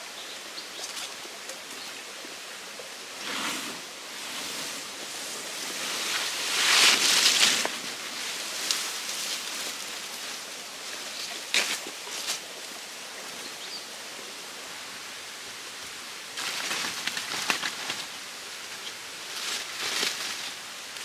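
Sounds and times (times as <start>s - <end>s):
stream flowing: 0.0s - 17.2s
palm fronds rustling: 3.1s - 13.7s, 14.6s - 21.0s.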